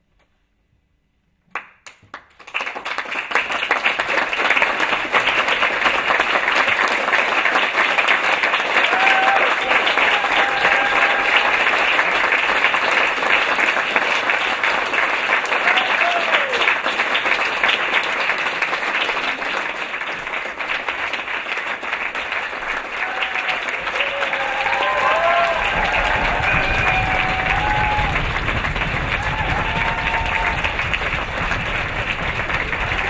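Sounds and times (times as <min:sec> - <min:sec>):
audience applauding: 0:01.8 - 0:33.0.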